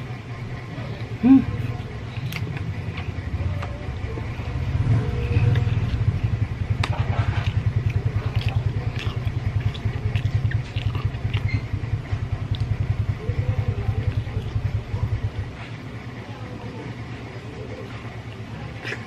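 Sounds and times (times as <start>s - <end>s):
person eating and chewing: 0.0s - 15.9s, 17.4s - 19.0s
pulsing motor rumble: 0.0s - 19.0s.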